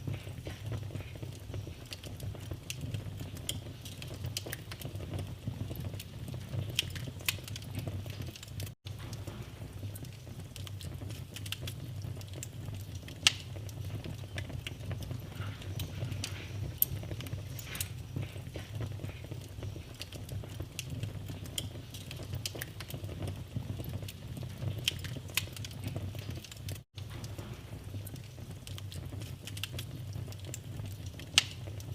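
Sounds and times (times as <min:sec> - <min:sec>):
low rumble of flames: 0:00.0 - 0:31.9
wood fire crackling: 0:00.0 - 0:31.9.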